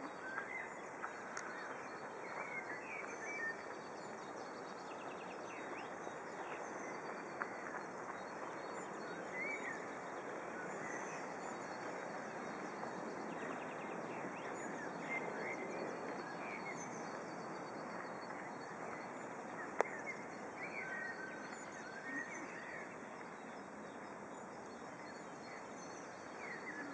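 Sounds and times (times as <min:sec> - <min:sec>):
background noise wash: 0:00.0 - 0:26.9
songbird chirps: 0:00.0 - 0:26.9.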